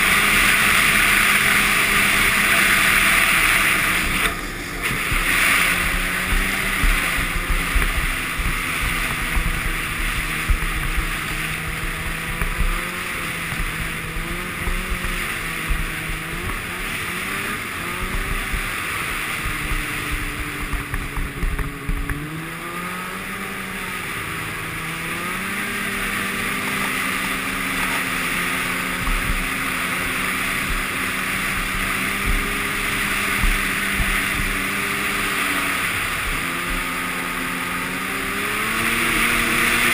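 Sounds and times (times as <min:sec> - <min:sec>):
snowmobile engine running: 0:00.0 - 0:39.9
track hiss: 0:00.0 - 0:39.9
wind: 0:00.0 - 0:39.9.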